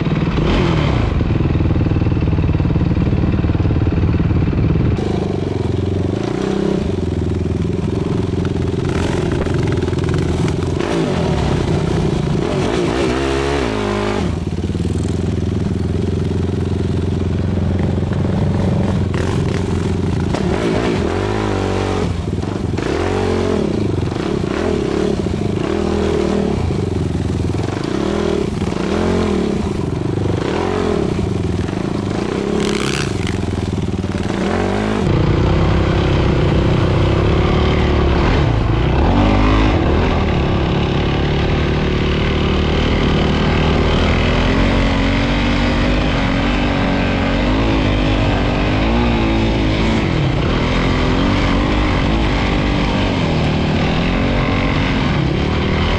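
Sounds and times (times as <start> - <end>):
quad engine revving: 0.0 - 55.9.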